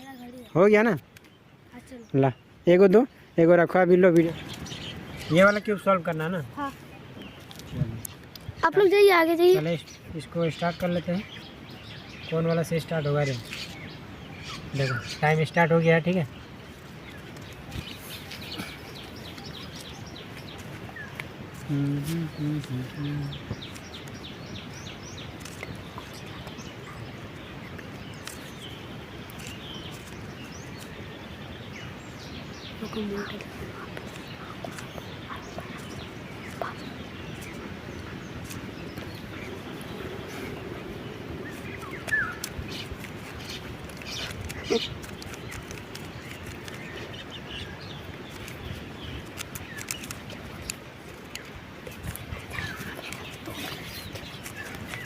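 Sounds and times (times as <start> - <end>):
outdoor background noise: 0.0 - 55.0
small birds chirping: 0.0 - 55.0.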